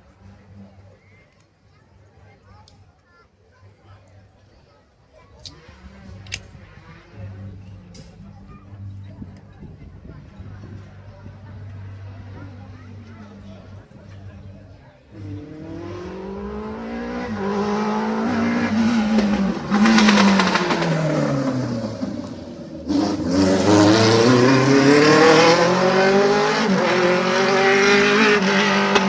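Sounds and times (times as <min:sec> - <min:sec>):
rally car engine at full throttle: 0:05.5 - 0:29.0.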